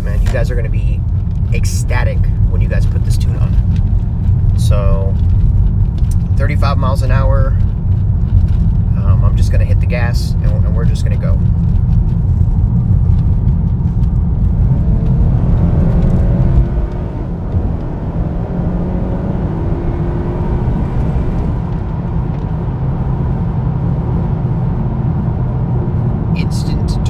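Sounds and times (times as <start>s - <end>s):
car engine accelerating: 0.0s - 27.0s
road rumble: 0.0s - 27.0s.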